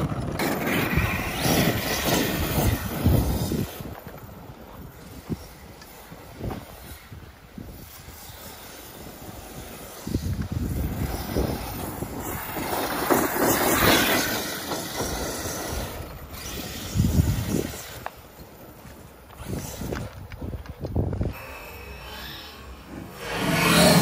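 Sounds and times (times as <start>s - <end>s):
wind buffeting microphone: 0.0s - 21.6s
rc truck driving over gravel: 0.0s - 24.0s.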